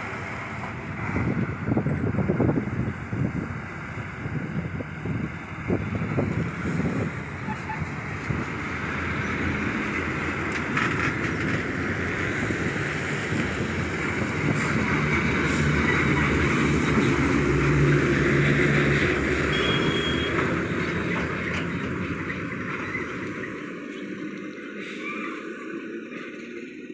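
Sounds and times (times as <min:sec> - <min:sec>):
trucks driving past: 0:00.0 - 0:26.9.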